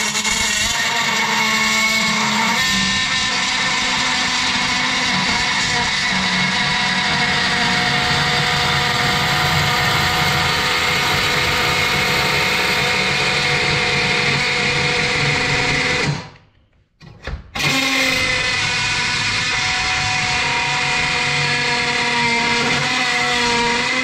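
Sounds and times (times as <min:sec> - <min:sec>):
oscillating multi-tool cutting metal: 0:00.0 - 0:16.2, 0:17.6 - 0:24.0.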